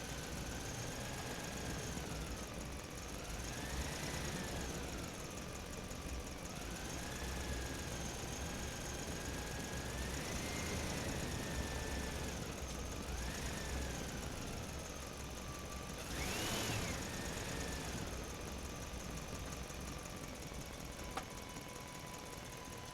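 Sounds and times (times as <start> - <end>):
heavy machinery diesel engine: 0.0 - 22.9.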